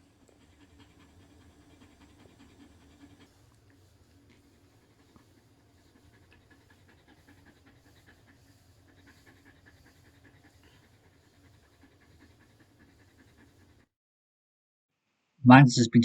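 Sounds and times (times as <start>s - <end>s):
dog panting fast: 0.0s - 13.9s.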